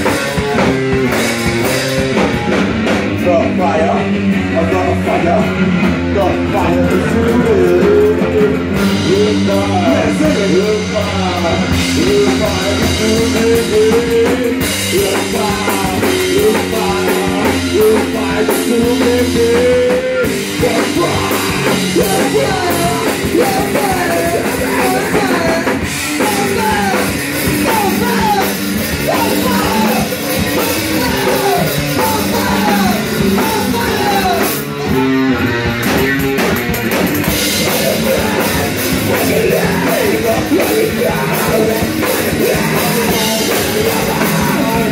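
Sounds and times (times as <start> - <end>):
bass guitar: 0.0 - 44.9
distorted electric guitar: 0.0 - 44.9
drum kit: 0.0 - 44.9.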